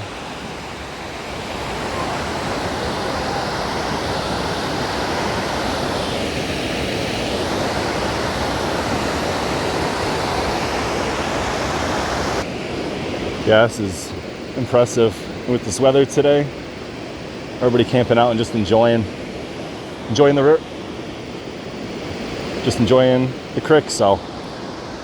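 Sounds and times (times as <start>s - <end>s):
waterfall rushing: 0.0s - 16.3s, 16.9s - 25.0s.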